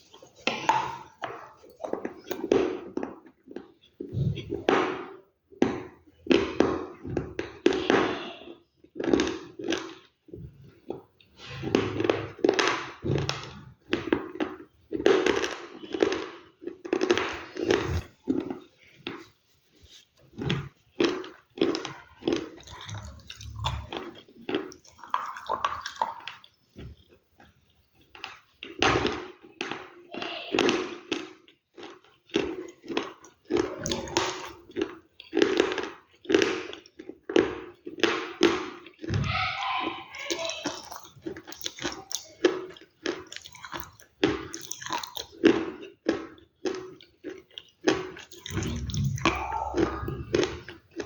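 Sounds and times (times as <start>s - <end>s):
chewing crunchy food: 0.0s - 51.0s.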